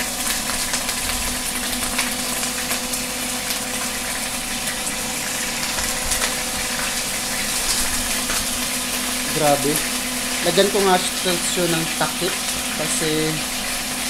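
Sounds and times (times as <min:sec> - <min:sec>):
beef sizzling in oil: 0:00.0 - 0:14.0.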